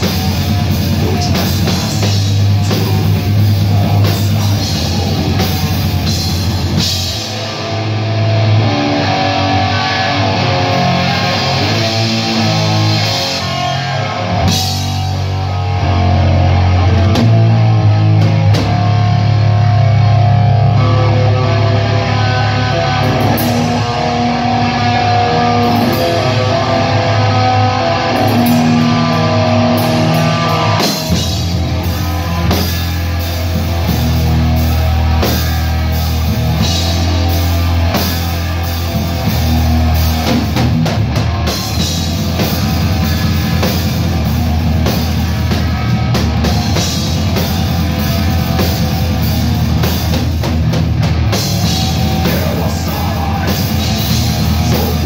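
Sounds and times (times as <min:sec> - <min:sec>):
drum kit: 0:00.0 - 0:55.0
electric guitars: 0:00.0 - 0:55.0.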